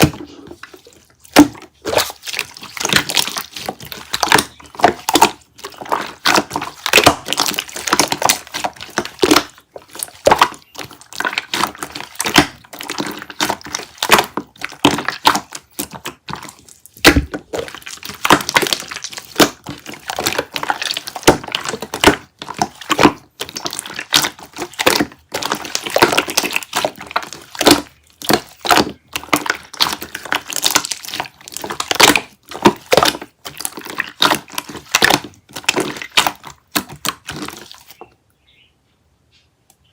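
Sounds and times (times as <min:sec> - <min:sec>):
slime squished by hand: 0:00.0 - 0:38.0.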